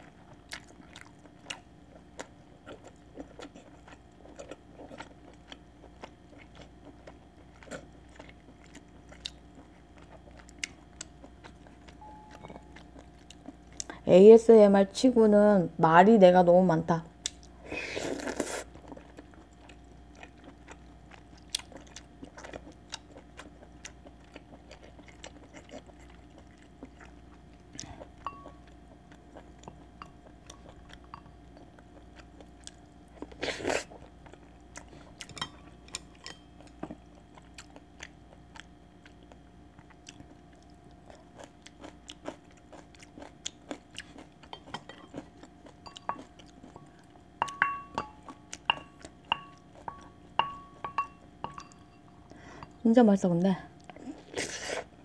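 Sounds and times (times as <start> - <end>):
soft chewing and mouth sounds: 0.0 - 14.1, 17.1 - 55.0.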